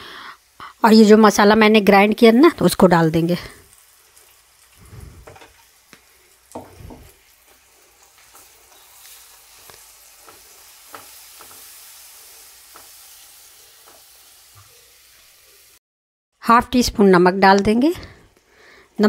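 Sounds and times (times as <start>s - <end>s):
paste sizzling in oil: 0.0s - 15.8s.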